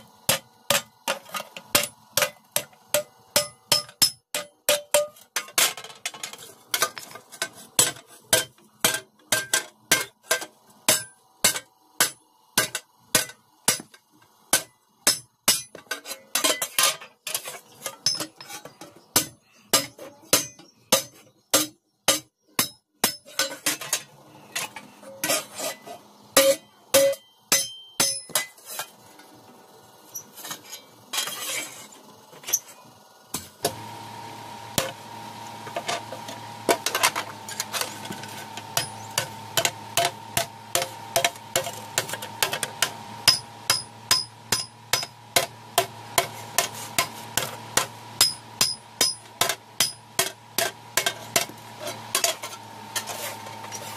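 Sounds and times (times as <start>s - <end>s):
hammer on hot iron on anvil: 0.0s - 5.7s, 7.8s - 17.0s, 17.9s - 28.9s, 34.8s - 35.0s, 35.7s - 53.1s
steady hum: 0.0s - 53.9s.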